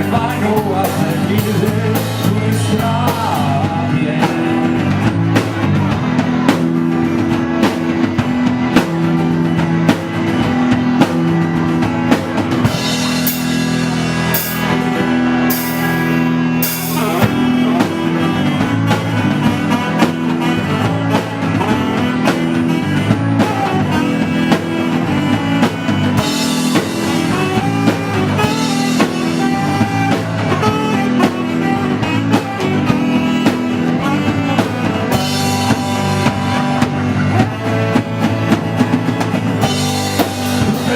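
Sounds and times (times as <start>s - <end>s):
drum kit steady beat: 0.0s - 40.9s
guitar: 0.0s - 40.9s.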